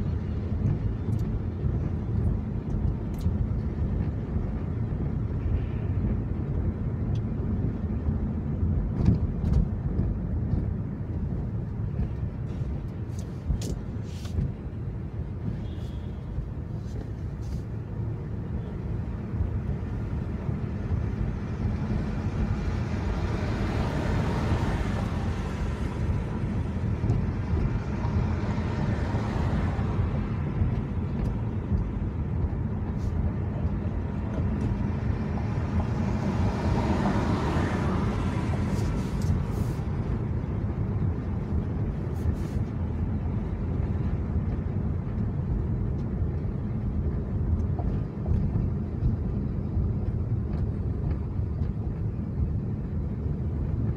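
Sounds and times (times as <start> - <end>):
car interior road noise: 0.0 - 53.9.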